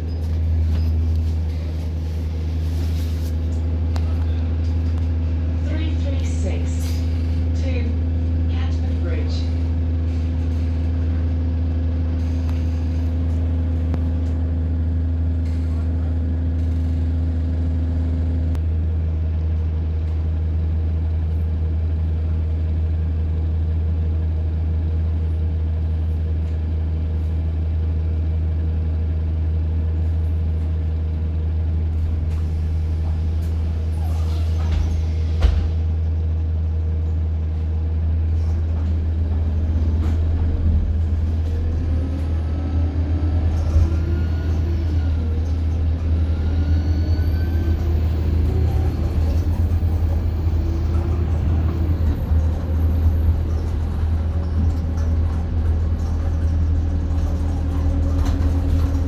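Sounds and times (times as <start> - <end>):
diesel bus engine humming: 0.0 - 59.0.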